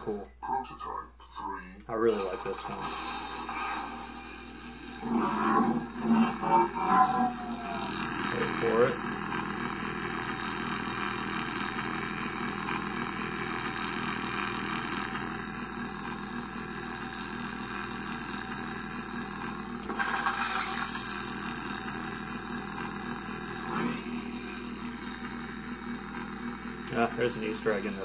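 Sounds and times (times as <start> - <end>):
lightsaber electric hum: 2.1 - 28.0.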